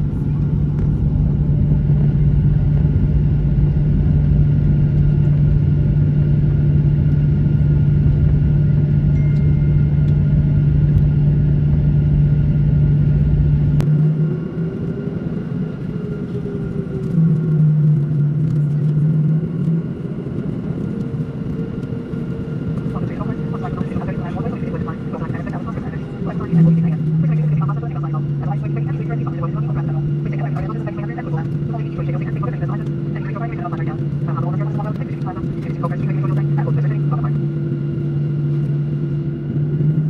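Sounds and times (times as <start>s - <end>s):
steady low hum: 0.0s - 15.8s, 16.4s - 40.0s
jet engines and wheels rumbling: 0.0s - 40.0s.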